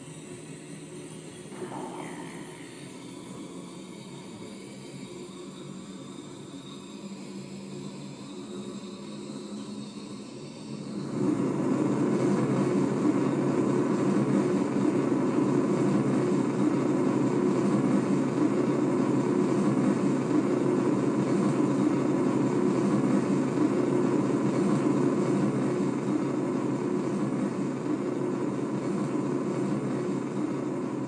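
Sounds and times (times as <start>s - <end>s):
jet engine rumble from small speaker: 0.0s - 31.0s.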